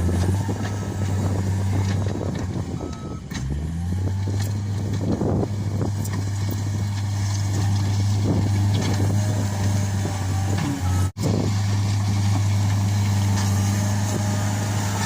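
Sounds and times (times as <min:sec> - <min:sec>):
loader engine running: 0:00.0 - 0:15.0.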